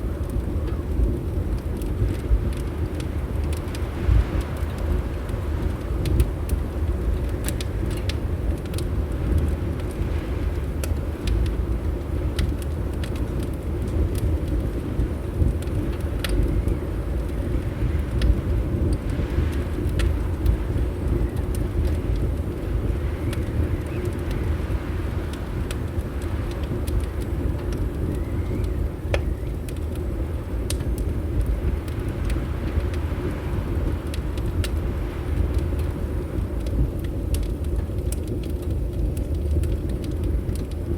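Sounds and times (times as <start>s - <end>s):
fireplace fire crackling and popping: 0.0s - 40.9s
steady low rumble: 0.0s - 40.9s.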